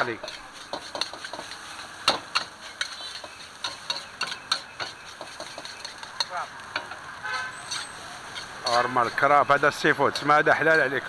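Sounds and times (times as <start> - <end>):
metal spatula scraping a wok: 0.0 - 9.9.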